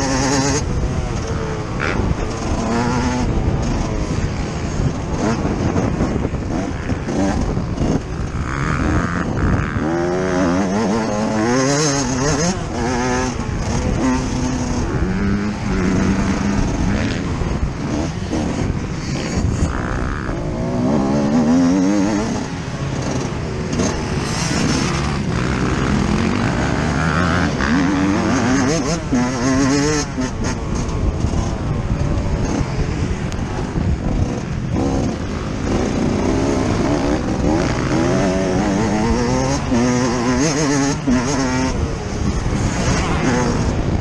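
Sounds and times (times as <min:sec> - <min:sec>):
motocross engine revving: 0:00.0 - 0:44.0.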